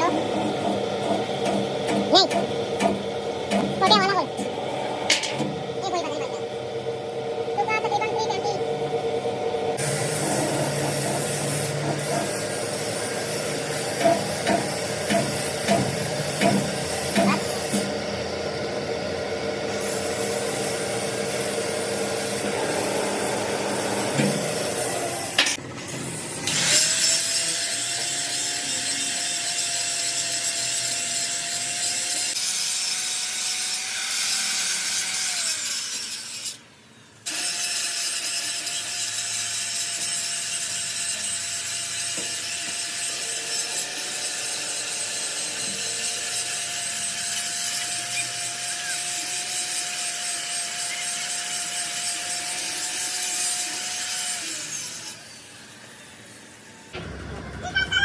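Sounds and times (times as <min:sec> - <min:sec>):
electric grinder on steel: 0:00.0 - 0:02.8, 0:03.6 - 0:06.9, 0:09.8 - 0:57.0.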